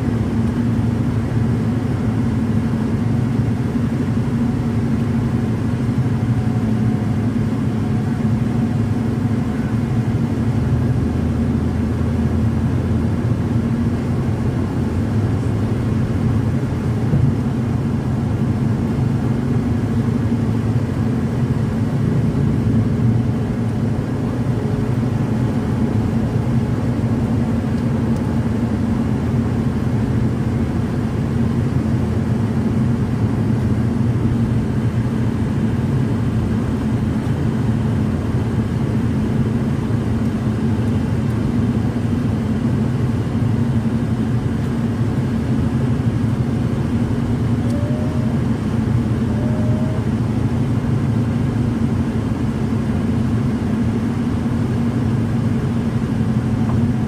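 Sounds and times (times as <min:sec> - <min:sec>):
car tyre and engine drone: 0:00.0 - 0:57.0.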